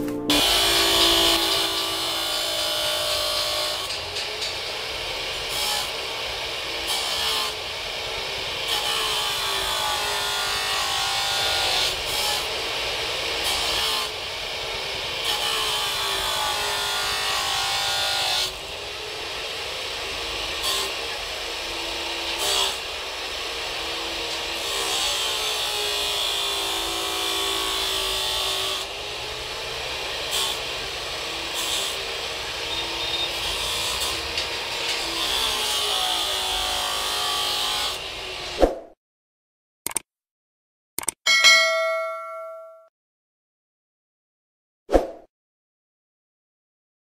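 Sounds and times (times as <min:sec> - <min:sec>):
cut-off saw grinding steel: 0:00.3 - 0:38.6.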